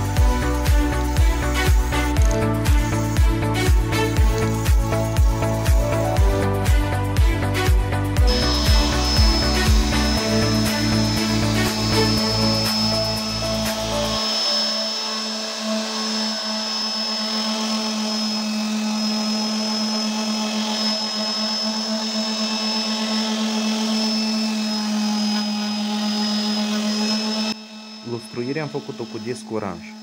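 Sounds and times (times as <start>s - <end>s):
orbital sander running: 0.0s - 30.0s.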